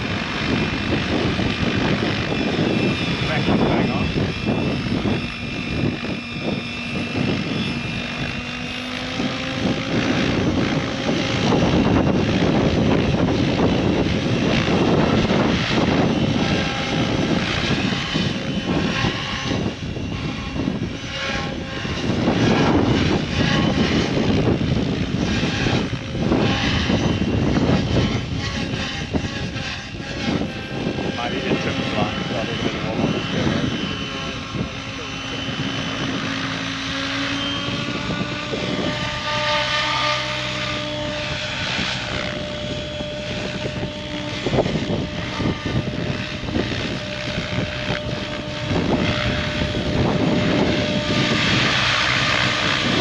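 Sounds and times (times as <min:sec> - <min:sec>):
rc helicopter rotors whirring: 0:00.0 - 0:53.0
wind on microphone: 0:00.0 - 0:53.0.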